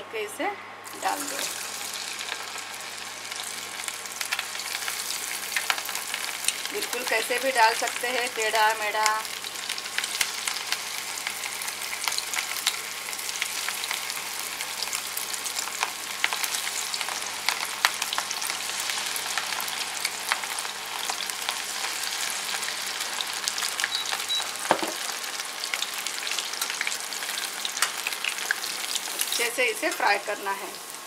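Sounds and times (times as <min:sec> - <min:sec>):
fritters sizzling in hot oil: 0:00.9 - 0:31.0.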